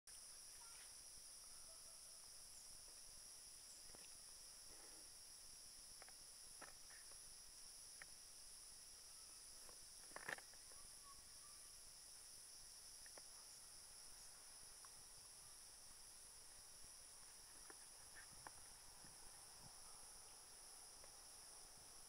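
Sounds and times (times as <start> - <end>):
high-pitched insect chorus: 0.1 - 22.0.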